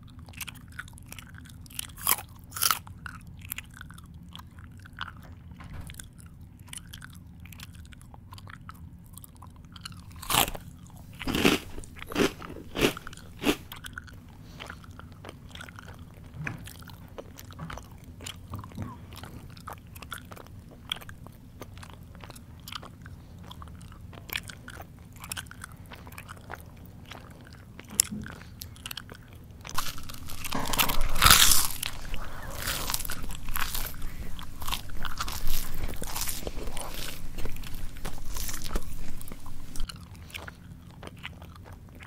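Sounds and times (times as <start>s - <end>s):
crunching crisp food: 0.0s - 42.0s.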